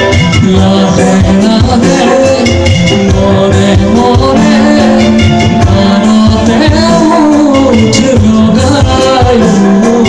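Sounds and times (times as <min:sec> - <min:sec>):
drum beats: 0:00.0 - 0:10.0
live band music through speakers: 0:00.0 - 0:10.0
person singing: 0:00.0 - 0:10.0.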